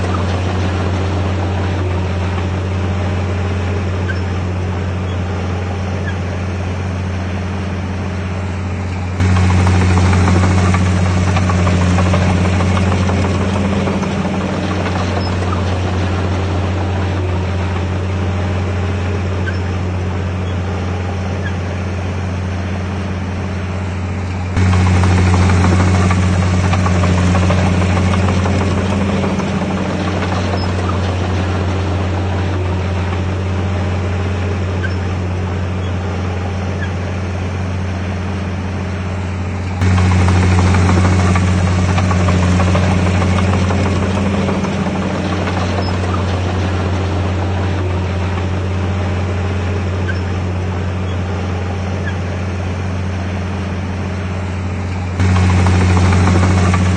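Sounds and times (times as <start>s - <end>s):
heavy diesel engine droning: 0.0s - 56.9s.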